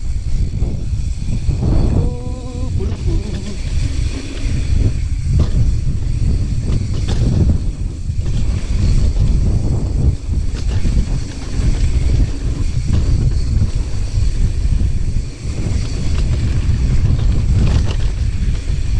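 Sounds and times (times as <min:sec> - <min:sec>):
bike rattling over bumps: 0:00.0 - 0:18.9
bike tyres rumbling on dirt: 0:00.0 - 0:18.9
wind buffeting microphone: 0:00.0 - 0:18.9.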